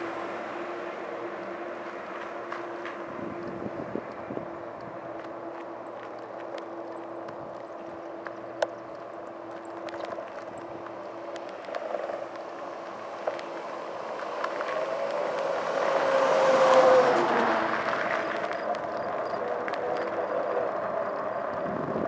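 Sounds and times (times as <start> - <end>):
truck passing by: 0.0 - 22.0.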